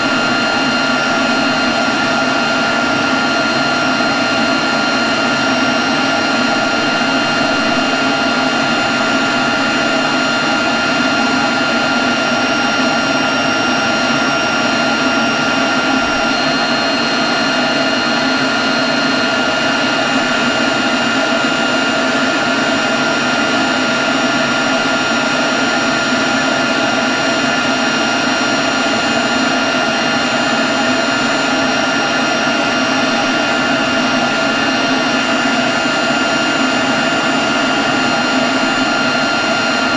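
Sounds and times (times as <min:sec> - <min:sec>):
leaf blower running: 0:00.0 - 0:39.9.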